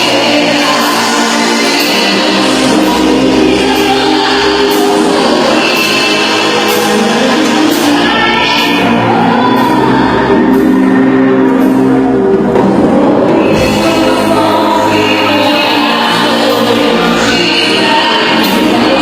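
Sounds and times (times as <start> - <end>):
worship band music with singing: 0.0 - 19.0.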